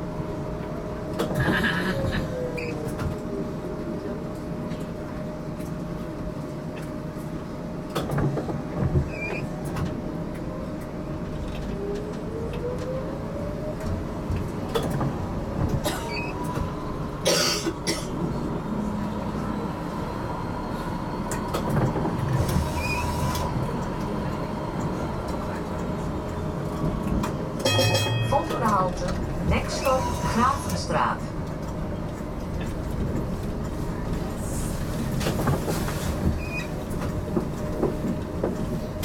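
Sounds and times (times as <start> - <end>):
tram motor whine: 0.0 - 39.0
tram rolling noise: 0.0 - 39.0.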